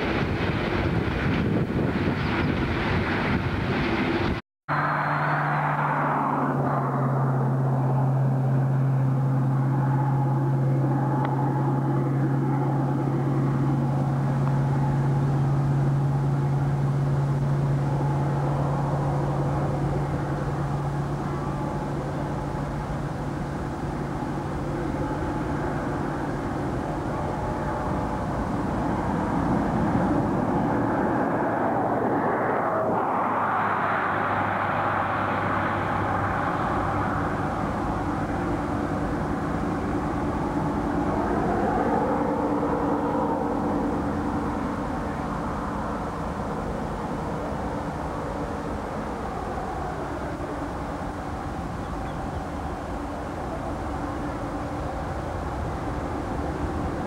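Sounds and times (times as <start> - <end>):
broad rumble: 0.0 - 57.0
low hum: 0.0 - 57.0
vehicle engine drone: 0.0 - 57.0.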